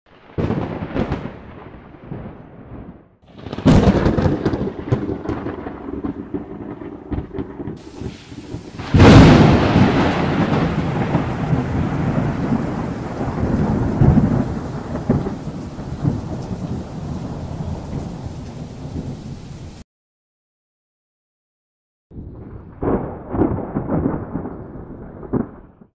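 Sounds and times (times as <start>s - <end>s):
thunder cracks and rumble: 0.1s - 19.8s, 22.1s - 25.9s.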